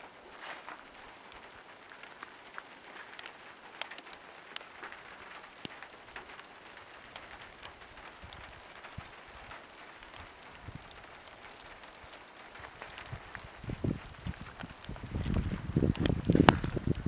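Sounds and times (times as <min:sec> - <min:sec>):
rain falling: 0:00.0 - 0:17.0
raindrop ticks: 0:00.0 - 0:17.0.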